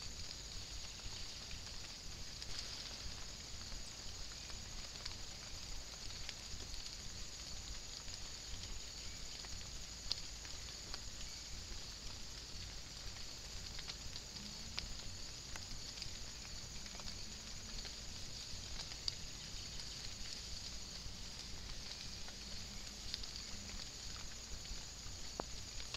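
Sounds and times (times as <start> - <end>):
light rain pattering: 0.0 - 25.9.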